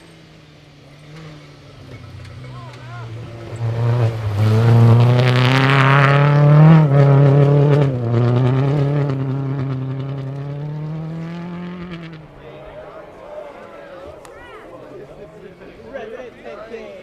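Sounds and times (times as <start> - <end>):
rally car engine at full throttle: 0.0 - 13.7.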